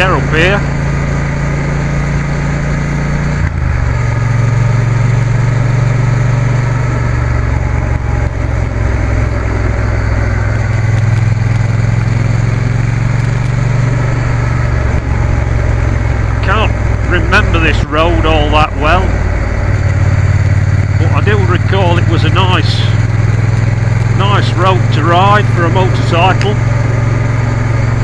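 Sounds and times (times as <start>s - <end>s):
motorcycle engine running: 0.0s - 28.0s
wind and road rush: 0.0s - 28.0s.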